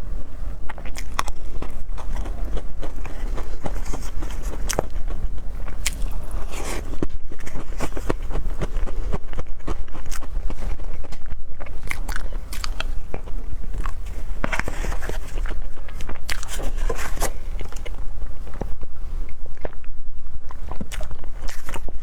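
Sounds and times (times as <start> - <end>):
person chewing soft food: 0.0 - 22.0.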